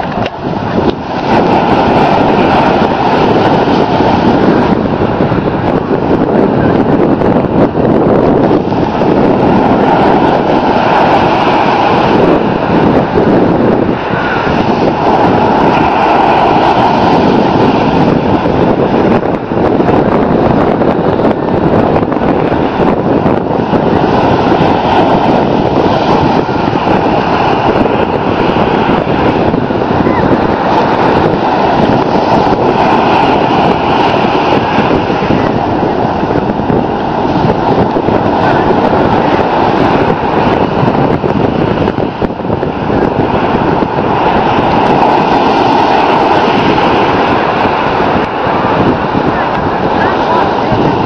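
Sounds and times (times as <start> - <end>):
ocean surf breaking: 0.0 - 51.0
wind on the microphone: 0.0 - 51.0.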